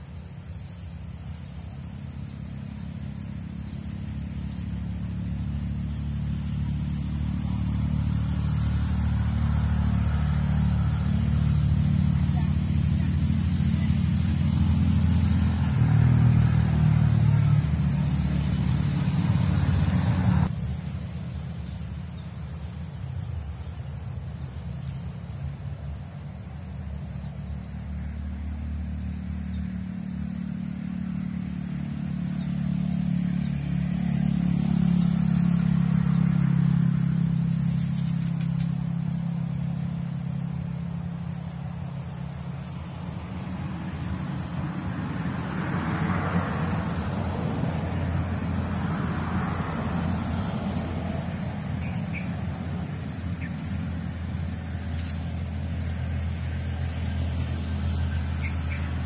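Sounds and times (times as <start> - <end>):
high insect drone: 0.0 - 59.0
vehicles passing rumble: 0.0 - 59.0.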